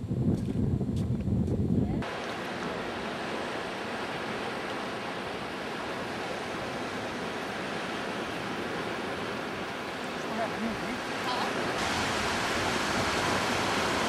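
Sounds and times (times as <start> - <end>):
distant surf rushing: 2.0 - 14.0.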